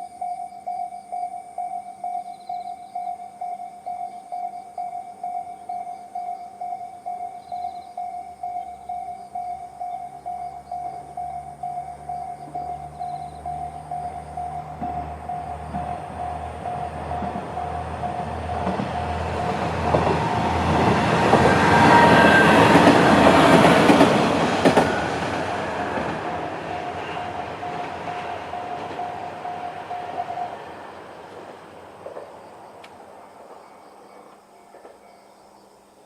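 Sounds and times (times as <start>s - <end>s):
electronic crossing alarm bell: 0.0s - 30.7s
diesel railcar passing: 5.0s - 35.5s.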